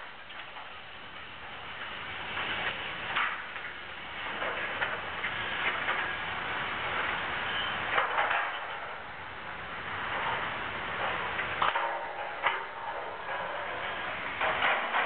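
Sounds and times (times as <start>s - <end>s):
demolition machinery running: 0.0s - 15.0s.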